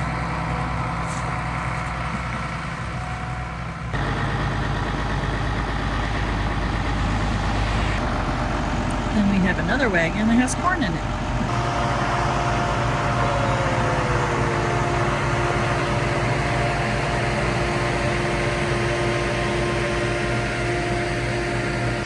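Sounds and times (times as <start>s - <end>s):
farm machinery droning: 0.0s - 22.0s.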